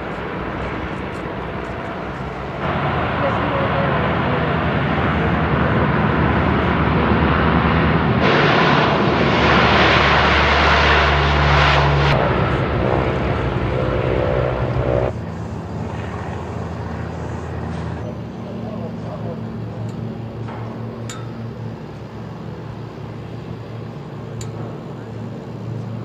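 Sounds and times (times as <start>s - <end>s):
turboprop aircraft engines droning: 0.0s - 26.0s.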